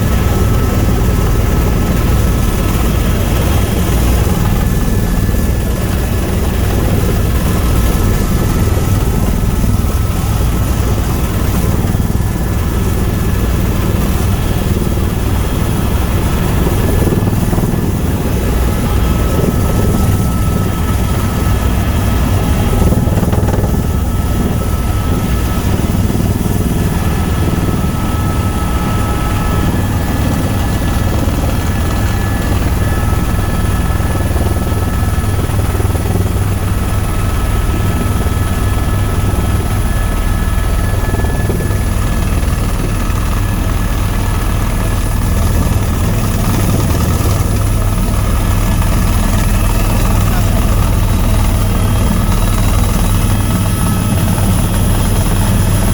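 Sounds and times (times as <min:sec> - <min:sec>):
helicopter rotor and turbine drone: 0:00.0 - 0:55.9.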